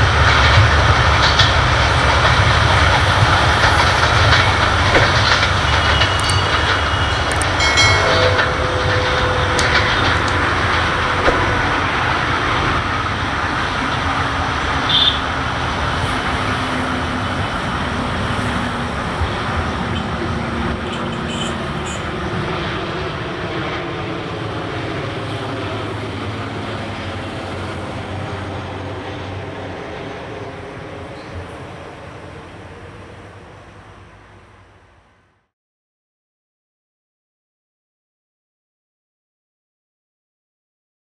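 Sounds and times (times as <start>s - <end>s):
passenger train rumbling on rails: 0.0s - 35.5s.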